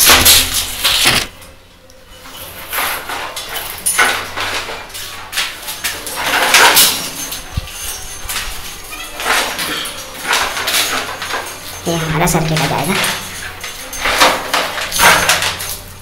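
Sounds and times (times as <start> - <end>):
electrical wires rustling and scraping: 0.0 - 16.0.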